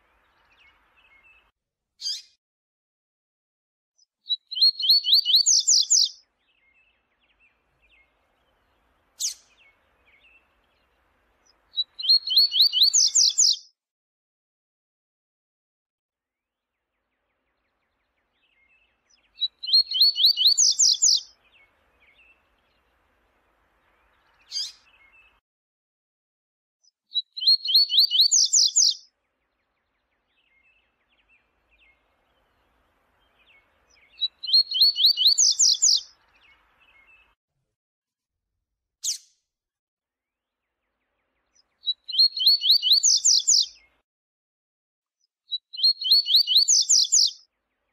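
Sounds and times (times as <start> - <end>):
bird song of repeated notes: 0.0 - 2.4, 4.0 - 13.8, 16.3 - 25.4, 26.8 - 37.4, 39.0 - 39.4, 40.1 - 44.0, 45.2 - 47.9.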